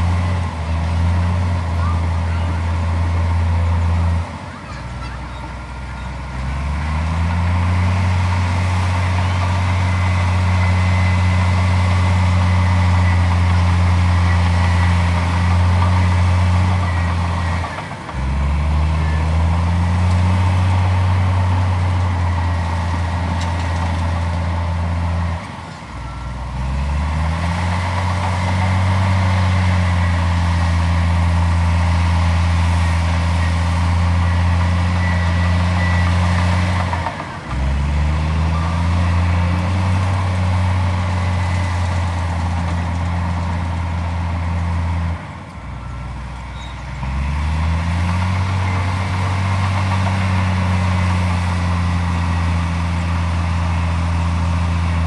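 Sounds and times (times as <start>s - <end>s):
heavy diesel engine running hard: 0.0s - 55.0s.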